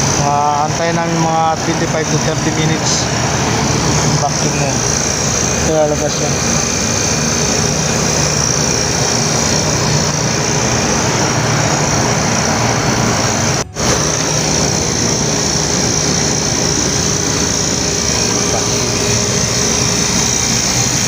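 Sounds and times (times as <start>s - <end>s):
vacuum pump running: 0.0s - 21.0s.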